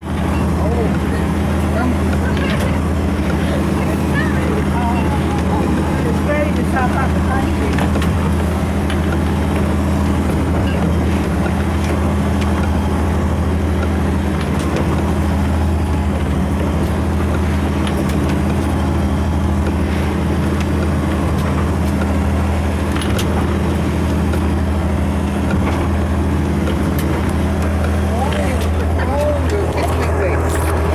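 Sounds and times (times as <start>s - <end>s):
boat diesel engine droning: 0.0s - 30.9s.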